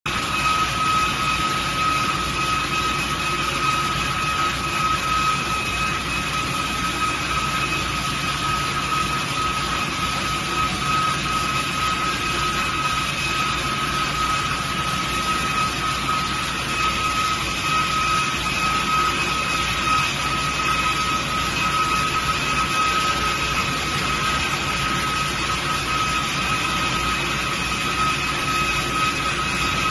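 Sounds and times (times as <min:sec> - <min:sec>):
wire saw cutting stone: 0:00.1 - 0:29.9.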